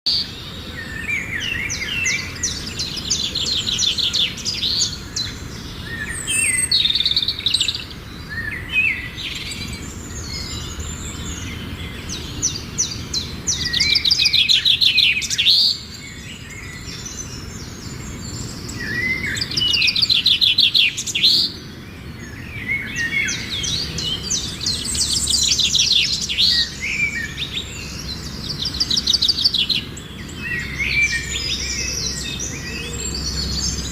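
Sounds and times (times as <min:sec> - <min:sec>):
songbird trilling and chirping: 0:00.1 - 0:33.9.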